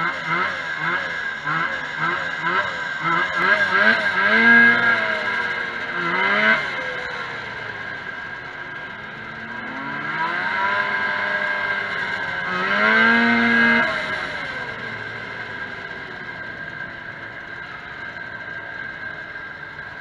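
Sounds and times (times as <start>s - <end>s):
two-stroke snowmobile engine revving: 0.0s - 20.0s.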